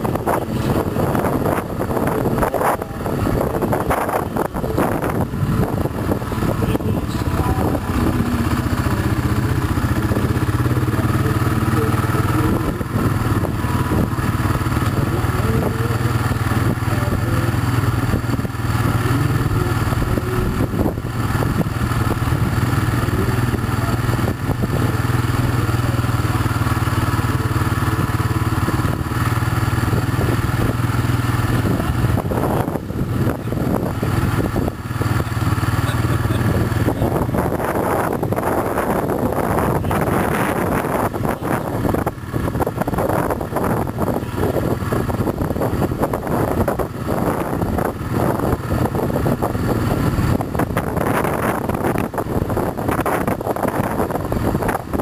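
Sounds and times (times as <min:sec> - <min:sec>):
engine idling hum: 0:00.0 - 0:55.0.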